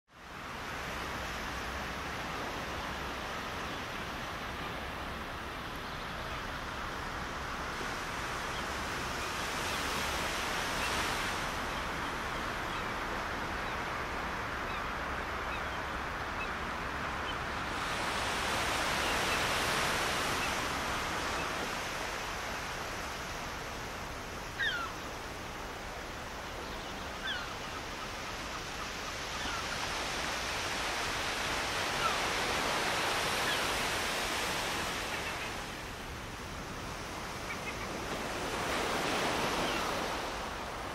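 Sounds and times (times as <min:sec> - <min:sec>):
surf washing on beach: 0:00.2 - 0:40.9.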